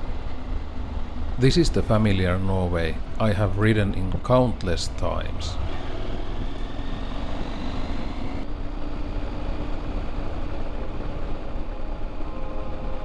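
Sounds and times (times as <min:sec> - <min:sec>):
wind and road noise: 0:00.0 - 0:11.7.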